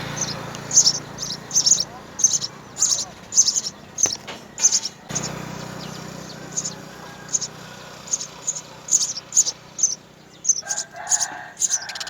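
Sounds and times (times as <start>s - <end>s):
steady low hum: 0.0s - 11.0s
sparrows chirping: 0.0s - 12.0s.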